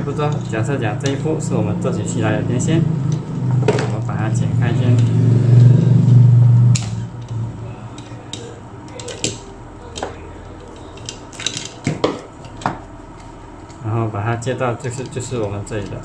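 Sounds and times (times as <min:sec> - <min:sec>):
loud low hum: 0:00.0 - 0:16.0.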